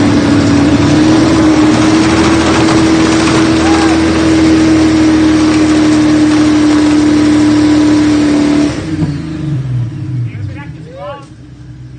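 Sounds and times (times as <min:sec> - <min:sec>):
car engine at high revs: 0:00.0 - 0:11.9.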